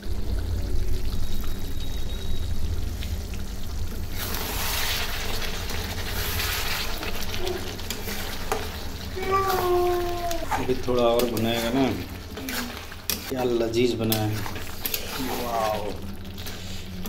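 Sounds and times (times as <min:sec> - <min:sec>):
curry bubbling and sizzling: 0:00.0 - 0:17.0
gas stove low rumble: 0:00.0 - 0:17.0.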